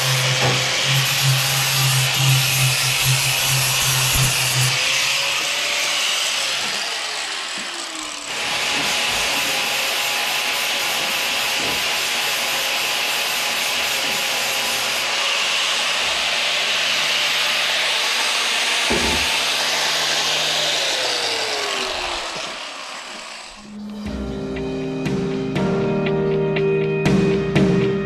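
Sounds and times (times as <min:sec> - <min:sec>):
power tool spinning down: 0:00.0 - 0:24.1
power tool grinding: 0:00.0 - 0:25.0.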